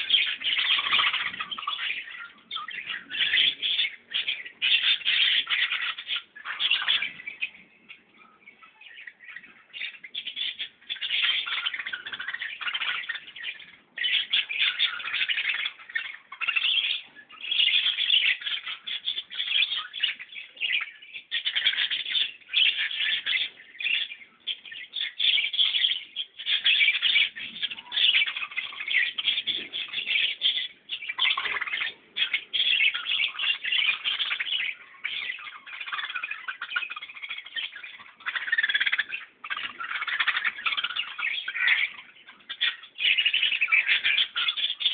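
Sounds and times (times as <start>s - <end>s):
many birds chirping: 0.0s - 44.9s.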